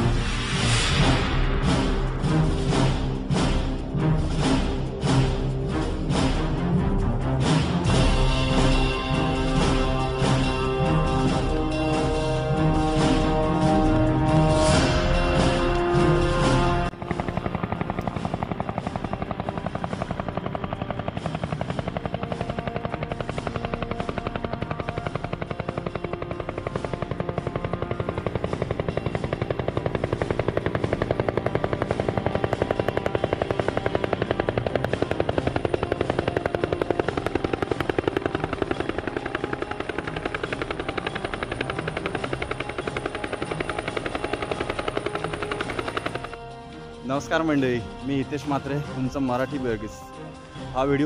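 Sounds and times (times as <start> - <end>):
helicopter rotor chopping: 0.0 - 51.0.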